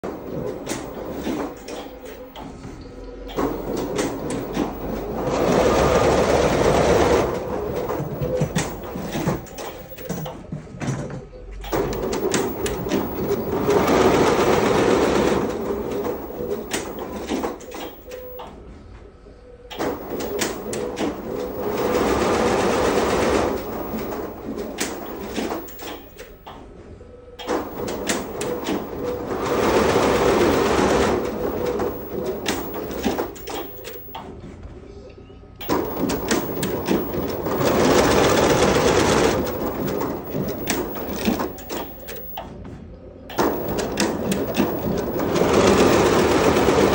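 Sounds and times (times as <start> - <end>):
embroidery machine needles clattering: 0.0 - 2.5, 3.3 - 10.4, 11.6 - 18.5, 19.7 - 26.6, 27.4 - 34.2, 35.6 - 42.4, 43.3 - 46.9.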